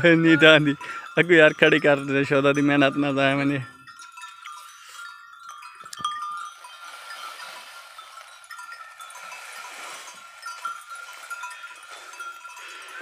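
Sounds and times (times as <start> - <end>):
small metal bells jingling: 0.0 - 13.0.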